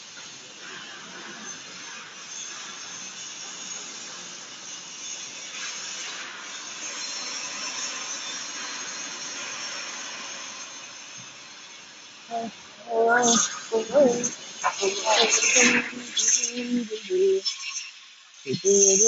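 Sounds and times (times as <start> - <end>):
factory machinery hissing: 0.0 - 19.0.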